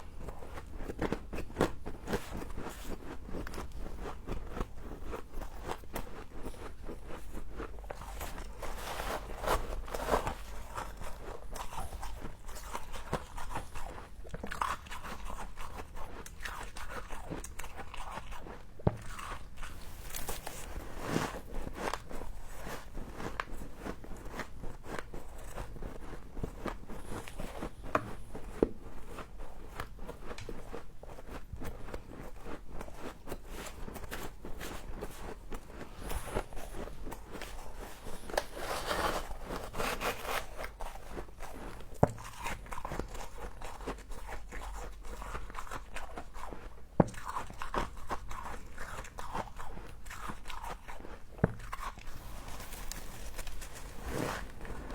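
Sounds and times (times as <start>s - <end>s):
frost crunching when chewed: 0.0s - 54.9s.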